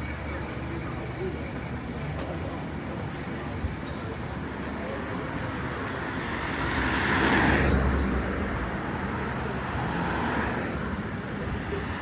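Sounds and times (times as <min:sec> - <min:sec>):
traffic hum: 0:00.0 - 0:12.0.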